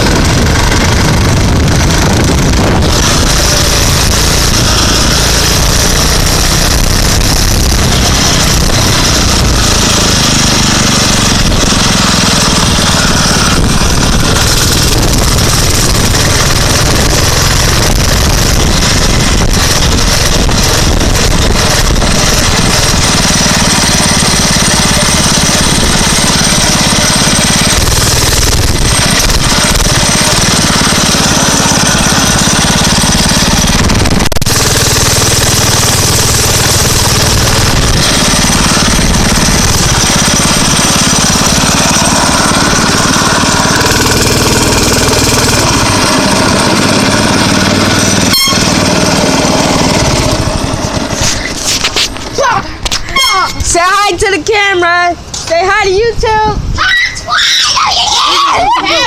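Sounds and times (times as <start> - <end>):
dirt bike engine running: 0.0 - 56.8.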